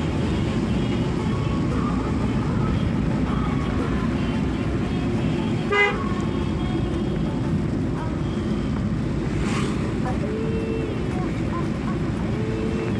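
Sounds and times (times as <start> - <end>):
vehicle engine and road rumble: 0.0 - 12.9.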